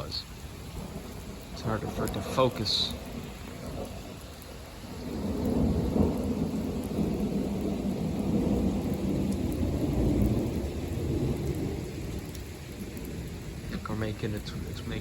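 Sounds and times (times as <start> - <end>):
distant thunder rumbling: 0.0 - 15.0
light rain: 0.0 - 15.0.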